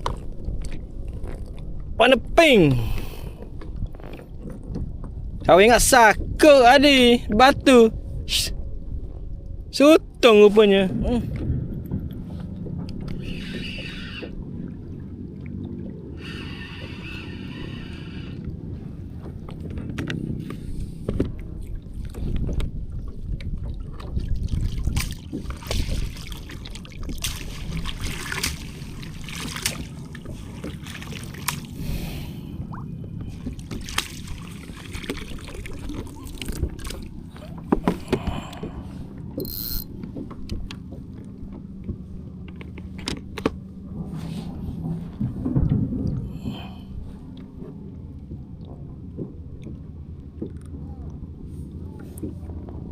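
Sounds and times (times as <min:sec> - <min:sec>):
wind and water rumble: 0:00.0 - 0:52.9.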